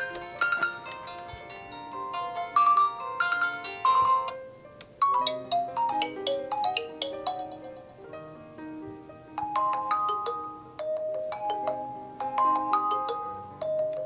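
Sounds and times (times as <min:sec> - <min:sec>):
phone ringtone melodies: 0:00.0 - 0:04.4, 0:05.0 - 0:08.1, 0:09.4 - 0:14.0.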